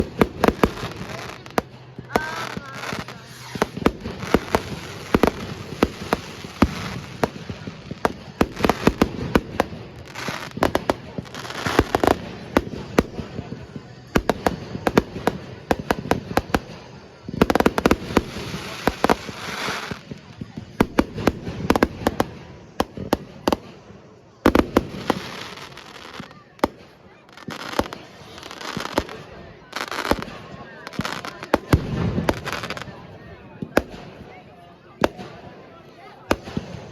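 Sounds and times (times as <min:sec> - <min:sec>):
fireworks bangs and crackles: 0:00.0 - 0:36.9
people's voices: 0:00.0 - 0:36.9.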